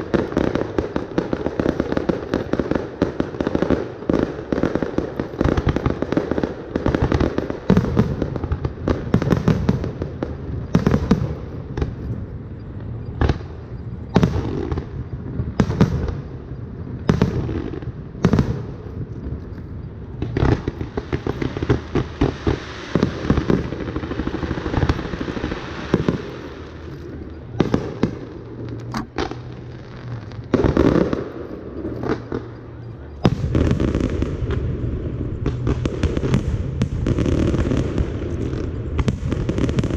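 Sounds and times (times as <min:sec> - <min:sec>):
fireworks bursting: 0:00.0 - 0:39.9
fireworks crackling: 0:00.0 - 0:39.9.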